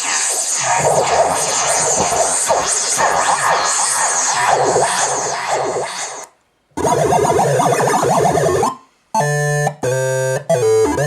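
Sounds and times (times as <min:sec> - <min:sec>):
synthesizer with swooping pitch glides: 0:00.0 - 0:09.3
synthesizer with warbling pitch: 0:00.1 - 0:06.2, 0:06.8 - 0:11.0.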